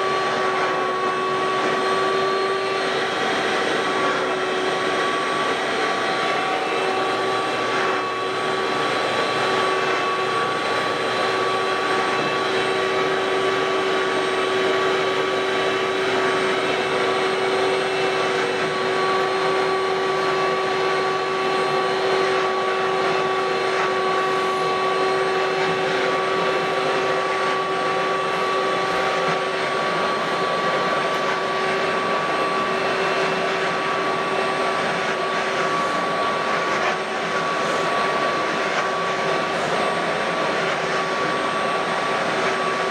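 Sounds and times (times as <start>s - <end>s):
shop vacuum running: 0.0s - 42.9s.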